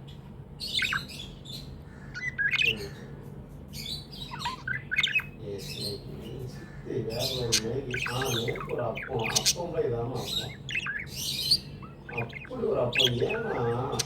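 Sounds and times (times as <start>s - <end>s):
budgerigars chirping and squawking: 0.0s - 14.0s.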